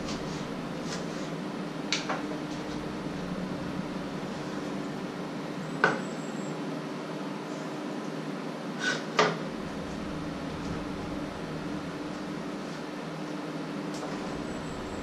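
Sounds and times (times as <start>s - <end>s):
steady low hum: 0.0s - 7.6s, 9.3s - 15.0s.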